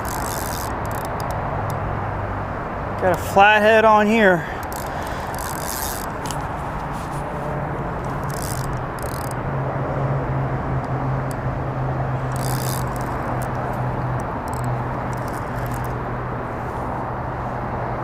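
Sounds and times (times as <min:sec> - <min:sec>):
city traffic roar: 0:00.0 - 0:18.0
constant low hum: 0:00.0 - 0:18.0.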